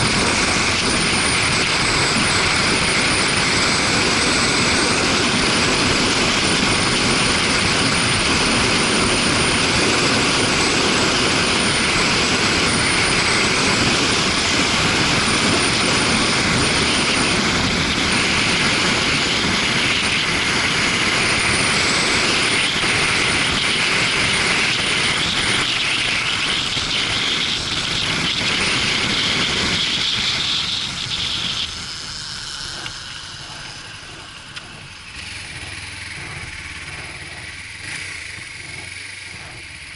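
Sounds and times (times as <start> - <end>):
motorcycle running: 0.0 - 39.9
wind rushing over microphone: 0.0 - 39.9.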